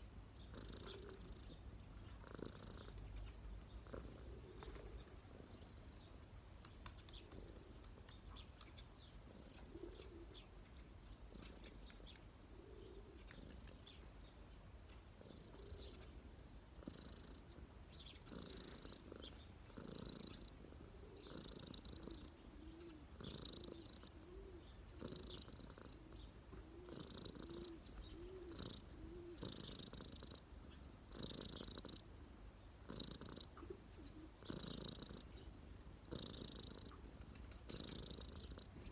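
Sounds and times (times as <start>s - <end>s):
cat purring: 0.4s - 14.4s, 15.0s - 38.9s.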